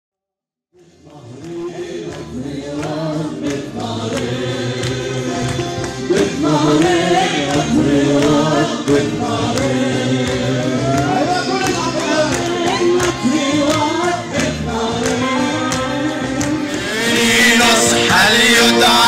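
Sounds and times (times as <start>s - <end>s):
music with singing voices: 0.8s - 19.0s.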